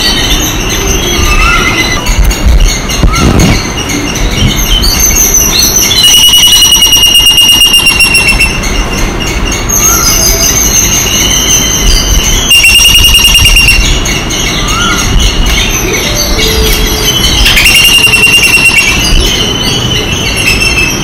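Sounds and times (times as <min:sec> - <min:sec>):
bird chirps: 0:00.0 - 0:21.0
high fast-pulsing buzz: 0:00.0 - 0:21.0.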